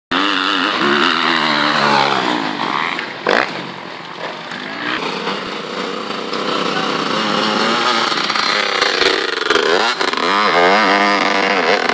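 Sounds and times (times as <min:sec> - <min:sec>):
dirt bike engines revving: 0:00.1 - 0:11.9.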